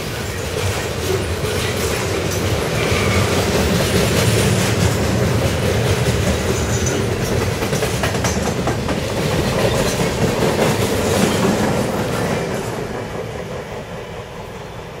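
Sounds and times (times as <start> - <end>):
freight train wheels on rails: 0.0 - 15.0.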